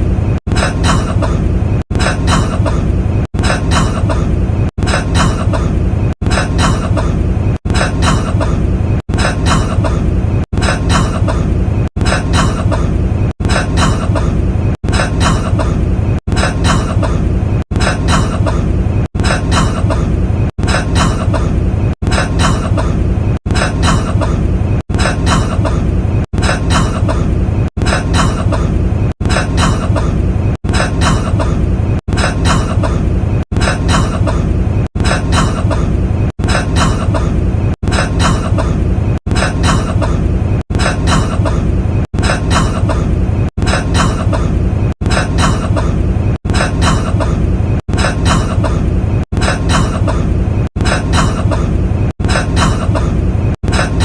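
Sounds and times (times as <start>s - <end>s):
man coughing: 0.5s - 24.4s, 25.0s - 31.6s, 32.2s - 54.0s.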